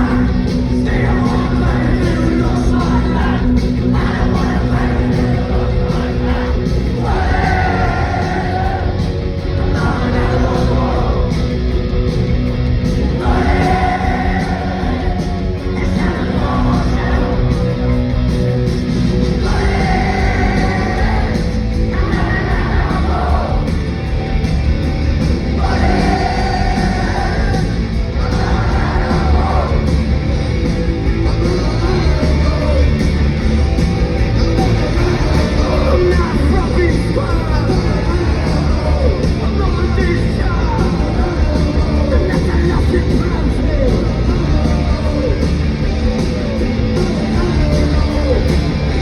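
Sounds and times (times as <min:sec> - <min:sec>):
shouted lead vocal: 0:00.0 - 0:11.8, 0:12.9 - 0:18.2, 0:19.1 - 0:24.2, 0:25.2 - 0:49.0
punk rock band playing: 0:00.0 - 0:49.0.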